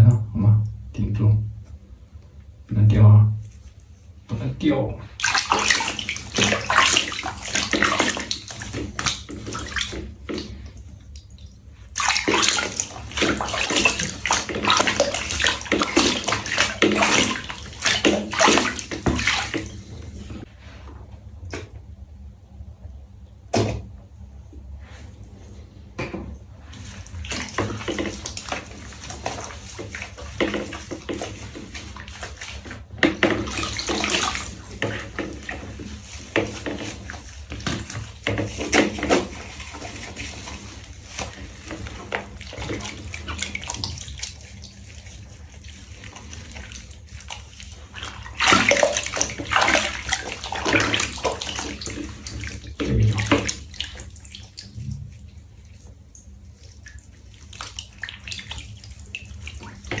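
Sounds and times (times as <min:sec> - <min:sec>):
water splashing in a tub: 0:03.4 - 0:20.5, 0:23.3 - 0:24.3, 0:24.9 - 1:00.0.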